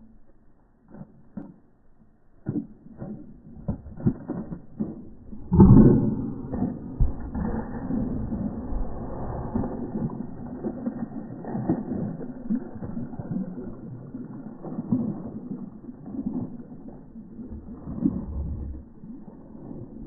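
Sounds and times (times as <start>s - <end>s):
dog paws splashing through water: 0.0s - 20.0s.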